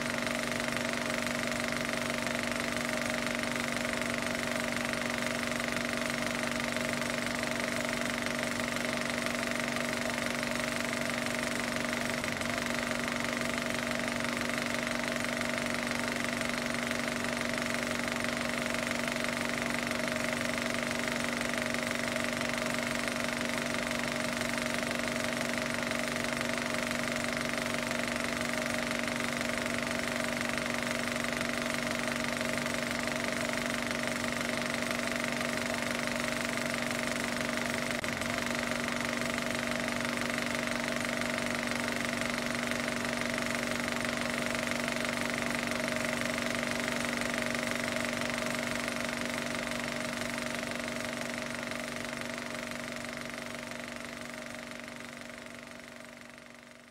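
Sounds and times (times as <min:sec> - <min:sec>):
machine running with hum: 0:00.0 - 0:56.9.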